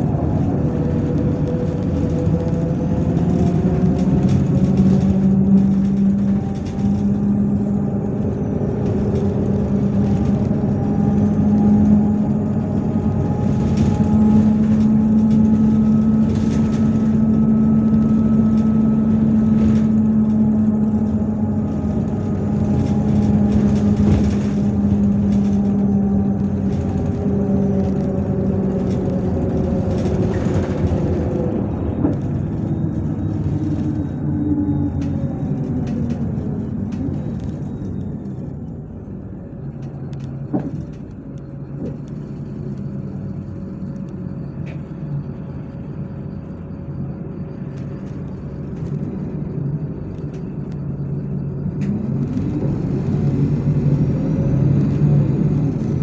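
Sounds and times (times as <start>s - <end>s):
bus engine whine: 0.0s - 56.0s.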